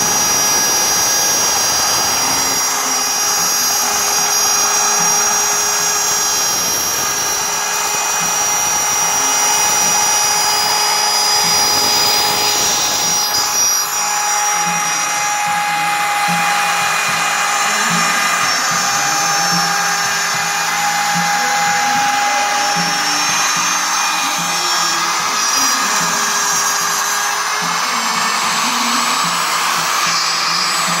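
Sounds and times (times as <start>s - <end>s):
spindle whine: 0.0s - 31.0s
stepper motor tones: 0.0s - 31.0s.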